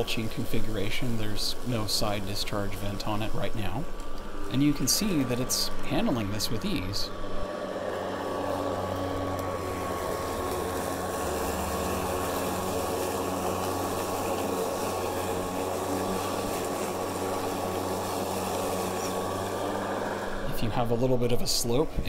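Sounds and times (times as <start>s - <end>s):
electric lawn mower running: 0.0s - 22.0s.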